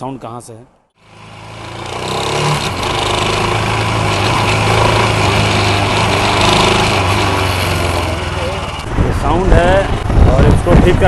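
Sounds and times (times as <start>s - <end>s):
motorcycle engine running: 1.0s - 11.0s.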